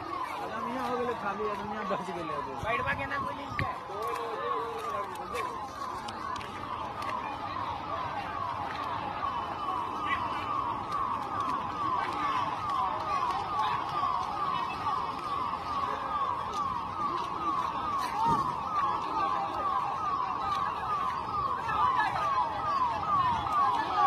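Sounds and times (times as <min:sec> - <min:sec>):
emergency siren yelping: 0:00.0 - 0:24.0.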